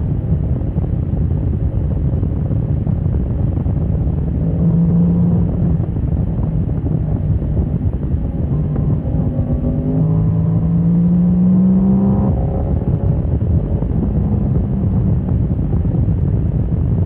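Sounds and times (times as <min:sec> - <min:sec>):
wind rumble on microphone: 0:00.0 - 0:17.0
motorcycle engine accelerating: 0:03.2 - 0:17.0.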